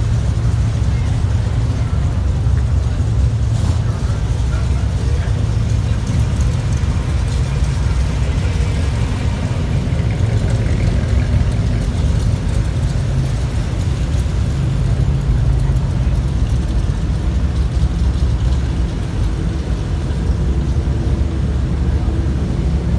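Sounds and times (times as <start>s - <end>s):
car engines low exhaust rumble: 0.0s - 22.9s.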